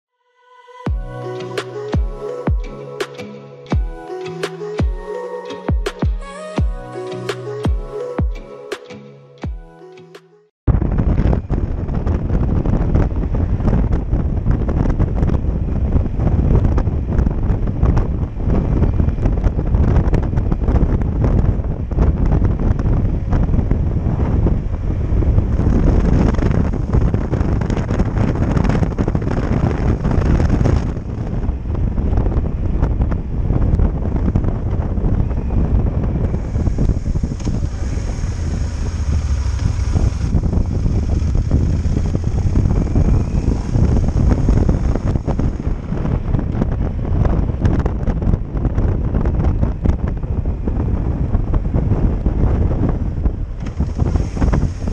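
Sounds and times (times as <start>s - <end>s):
motorcycle engine rumble: 10.7s - 54.9s
wind buffeting microphone: 10.7s - 54.9s.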